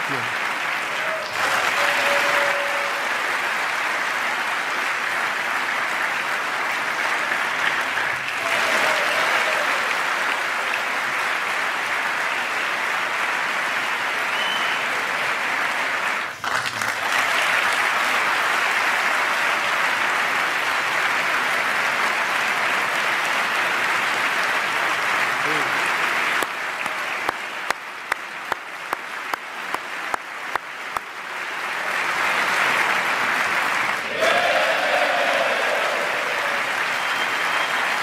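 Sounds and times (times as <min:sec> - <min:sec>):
large audience applauding: 0:00.0 - 0:38.0.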